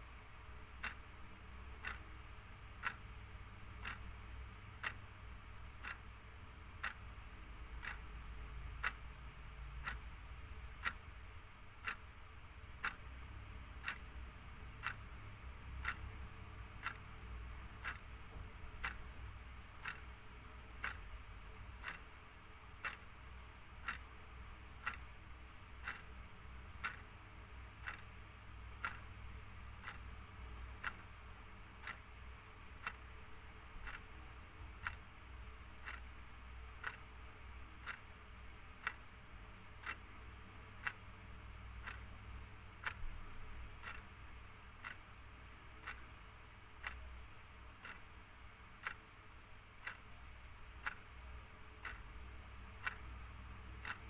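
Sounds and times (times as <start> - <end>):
faint low hum: 0.0 - 54.0
clock ticking: 0.4 - 54.0.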